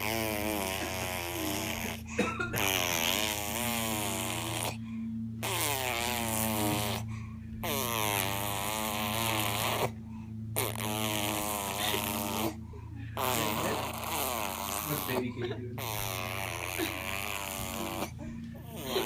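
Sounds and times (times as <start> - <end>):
baby making buzzy vocal sounds: 0.0 - 4.8, 5.4 - 10.0, 10.6 - 12.6, 13.2 - 19.0.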